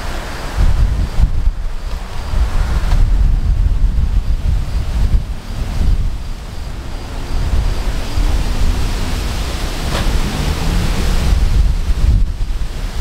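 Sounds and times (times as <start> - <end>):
gusty wind buffeting microphone: 0.0 - 13.0
tree leaves shaking: 0.0 - 13.0.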